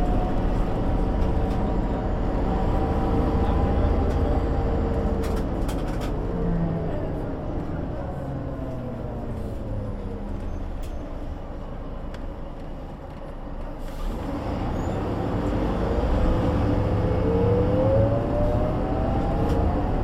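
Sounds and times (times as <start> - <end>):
bus engine with whine: 0.0 - 20.0.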